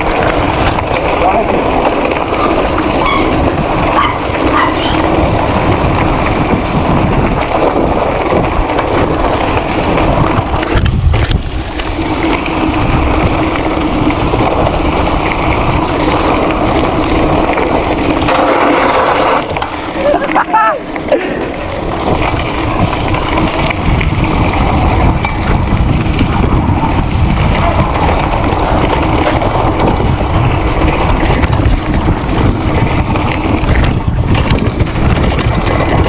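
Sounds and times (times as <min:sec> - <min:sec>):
bike rattling over bumps: 0:00.0 - 0:36.0
bike tyres crunching on gravel: 0:00.0 - 0:36.0
wind buffeting microphone: 0:00.0 - 0:36.0.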